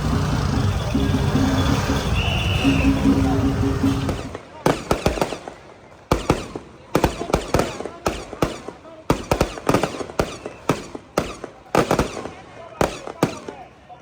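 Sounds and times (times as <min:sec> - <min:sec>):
firecrackers banging: 0:00.0 - 0:13.8.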